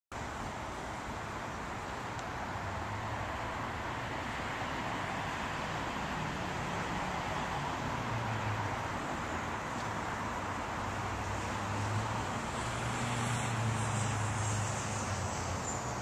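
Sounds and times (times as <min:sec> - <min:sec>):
low urban hum: 0:00.1 - 0:16.0
road traffic: 0:00.1 - 0:16.0.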